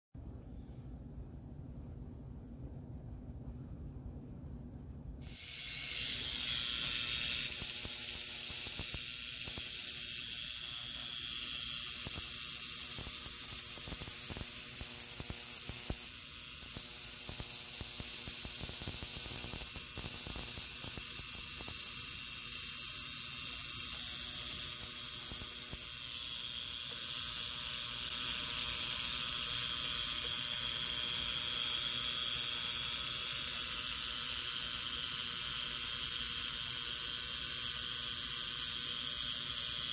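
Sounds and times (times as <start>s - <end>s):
tesla coil spark hiss: 5.2s - 39.9s.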